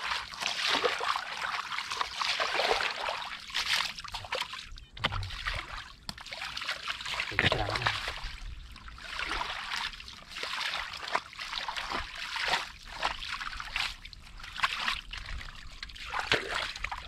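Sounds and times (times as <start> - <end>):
muddy water sloshing and splashing: 0.0 - 17.0.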